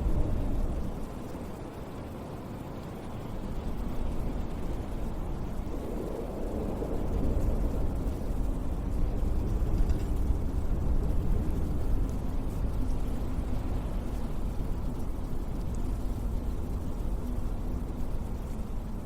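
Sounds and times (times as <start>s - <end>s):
strong wind blowing: 0.0s - 19.0s.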